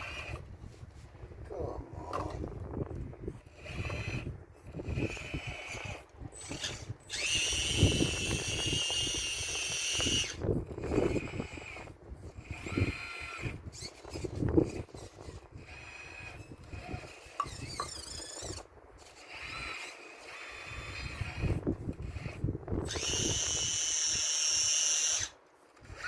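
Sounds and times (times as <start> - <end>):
hydraulic pump whining: 0.0 - 0.8, 1.5 - 26.0.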